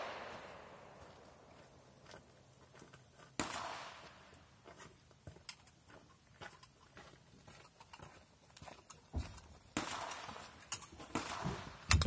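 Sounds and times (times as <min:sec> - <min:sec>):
footsteps on gravel: 0:00.1 - 0:11.6.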